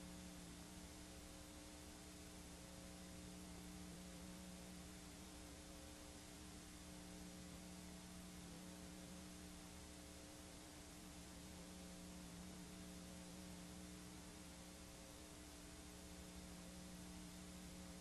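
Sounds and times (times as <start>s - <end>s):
faint steady hiss: 0.0s - 18.0s
low electrical hum: 0.0s - 18.0s.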